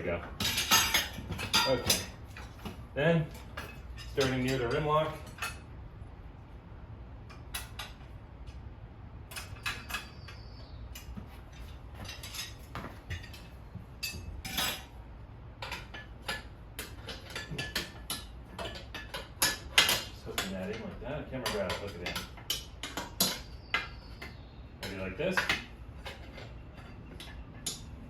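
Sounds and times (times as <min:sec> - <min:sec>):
tire irons clinking on wheel rim: 0:00.0 - 0:05.8, 0:07.2 - 0:28.0.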